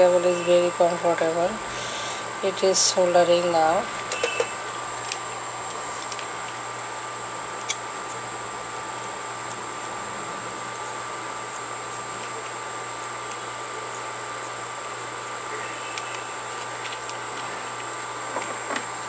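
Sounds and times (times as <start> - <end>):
background hiss with electrical hum: 0.0 - 19.0.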